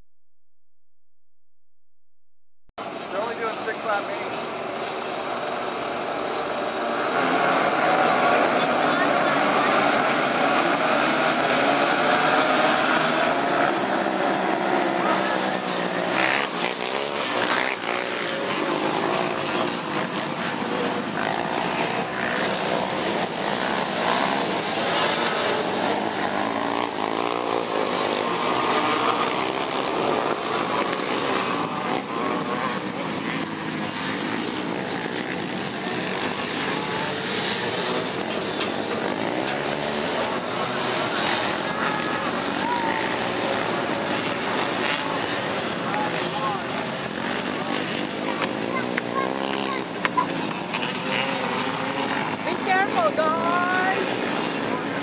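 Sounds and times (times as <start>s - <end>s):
racing atv engines revving: 2.8s - 55.0s.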